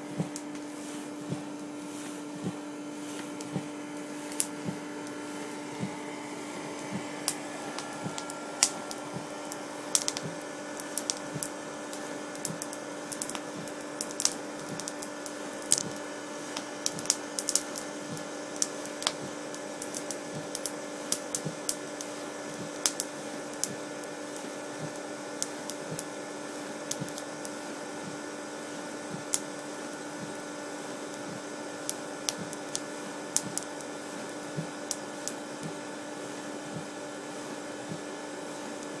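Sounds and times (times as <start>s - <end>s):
steady hum: 0.0s - 39.0s
open fire crackling and popping: 0.2s - 28.5s, 29.1s - 35.8s.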